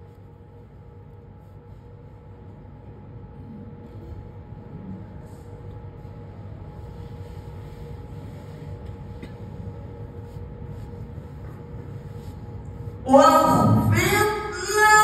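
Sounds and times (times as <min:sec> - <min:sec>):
faint sound system hum: 0:00.0 - 0:15.0
low hall rumble: 0:00.0 - 0:15.0.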